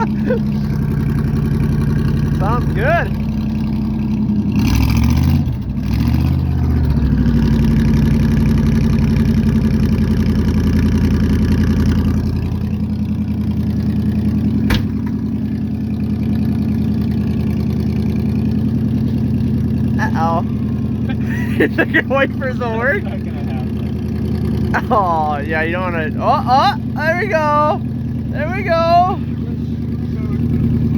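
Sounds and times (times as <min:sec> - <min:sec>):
pickup engine revving and idling: 0:00.0 - 0:30.9.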